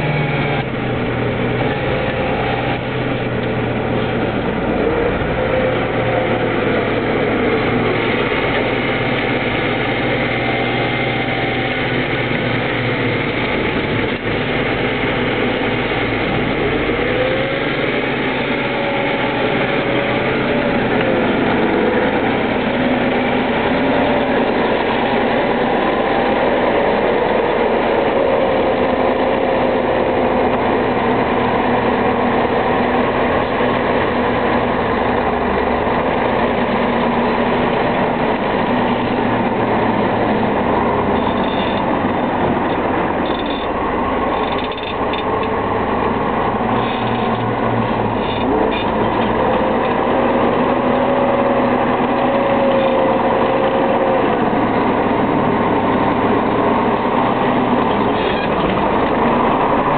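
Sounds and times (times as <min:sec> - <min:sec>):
tractor diesel engine running: 0:00.0 - 0:59.9
wavering whine: 0:00.0 - 0:59.9.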